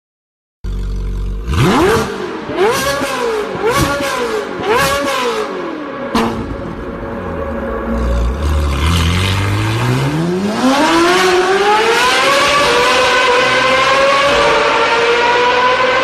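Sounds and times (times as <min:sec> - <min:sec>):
simulated car engine revving: 0:01.1 - 0:16.0.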